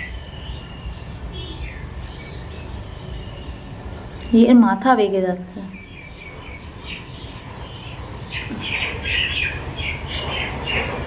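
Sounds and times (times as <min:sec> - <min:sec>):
birds chirping and squawking: 0:00.0 - 0:03.8, 0:05.6 - 0:11.0.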